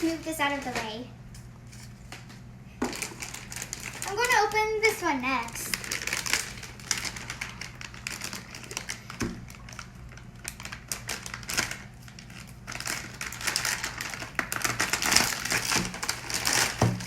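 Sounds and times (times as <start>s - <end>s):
packaging crinkling and tearing: 0.0s - 17.0s.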